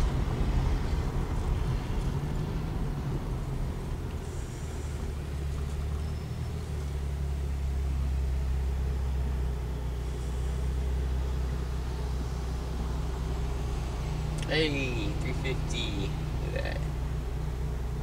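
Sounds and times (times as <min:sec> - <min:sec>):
car engine drone inside cabin: 0:00.0 - 0:18.0.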